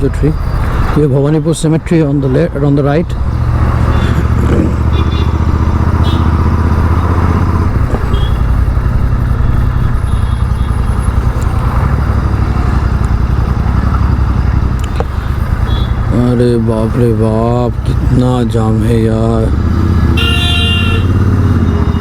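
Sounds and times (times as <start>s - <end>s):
road noise: 0.0s - 22.0s
vehicle engine running: 1.9s - 22.0s.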